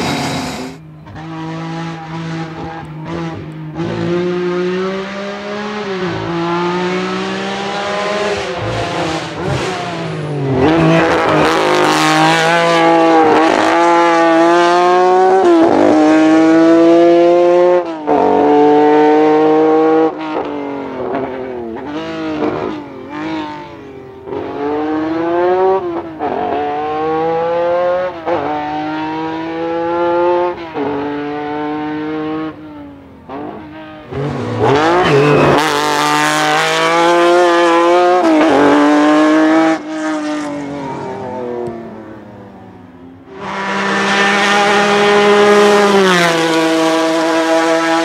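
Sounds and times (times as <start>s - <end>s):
rally car engine accelerating: 0.0s - 48.0s.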